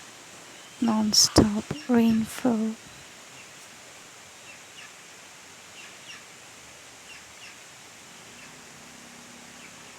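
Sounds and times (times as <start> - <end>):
steady rain falling: 0.0 - 9.9.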